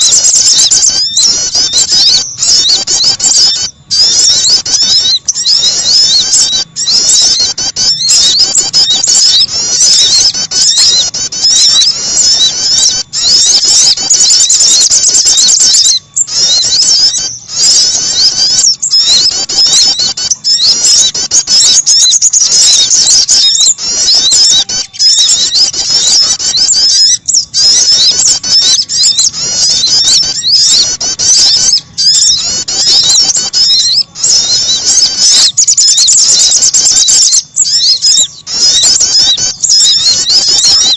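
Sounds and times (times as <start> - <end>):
songbird chirps and trills: 0.0 - 40.9.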